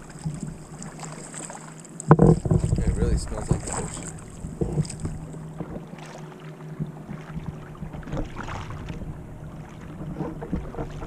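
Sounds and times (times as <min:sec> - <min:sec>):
kayak paddle splashing water: 0:00.0 - 0:11.0
steady low hum: 0:00.0 - 0:11.0.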